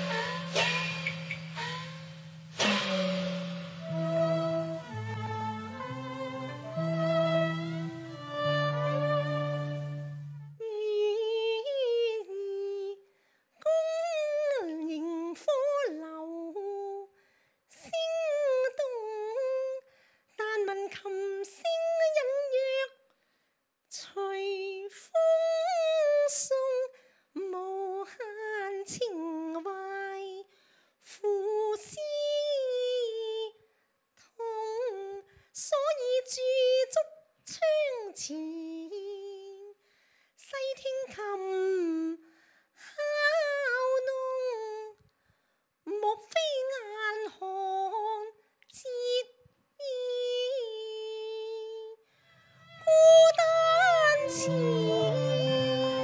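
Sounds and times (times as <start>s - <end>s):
woman singing opera style: 3.9s - 13.0s, 13.6s - 17.1s, 17.7s - 23.0s, 23.9s - 33.6s, 34.3s - 39.8s, 40.4s - 42.2s, 42.8s - 45.0s, 45.9s - 52.0s, 52.6s - 56.0s.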